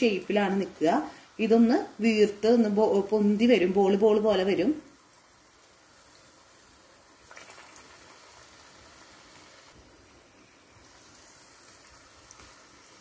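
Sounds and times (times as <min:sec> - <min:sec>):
hot oil bubbling and sizzling: 0:00.0 - 0:13.0.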